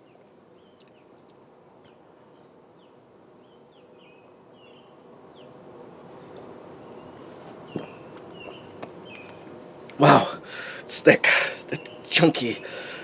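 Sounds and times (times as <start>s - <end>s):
small birds chirping: 0.0s - 9.6s, 10.4s - 13.0s.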